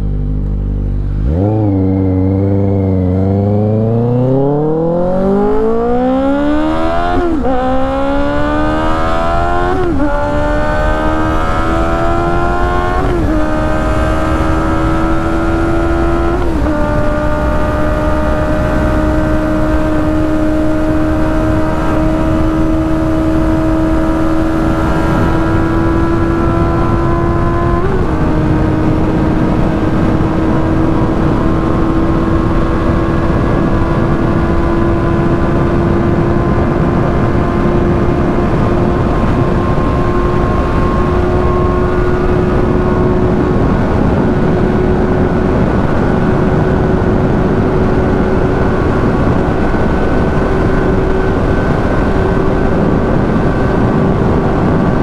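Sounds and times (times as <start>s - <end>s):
motorcycle engine at full throttle: 0.0s - 55.0s
wind rush: 0.8s - 55.0s.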